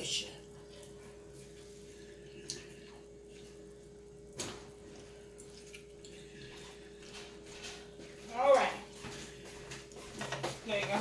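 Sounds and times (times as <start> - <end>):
faint hum: 0.0 - 10.2.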